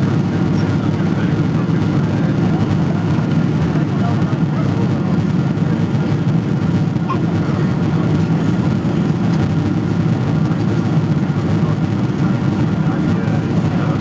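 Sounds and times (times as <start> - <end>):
airplane engines and airflow rumble: 0.0 - 14.0.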